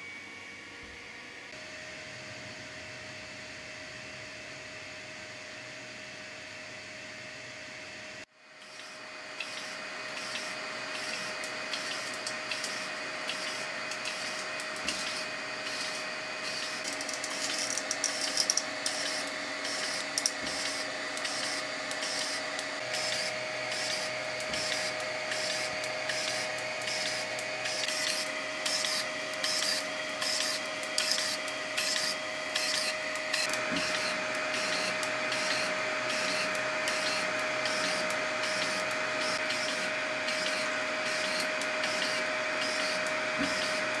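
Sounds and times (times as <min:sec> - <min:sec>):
stepper motor buzzing chirps: 0:08.6 - 0:44.0.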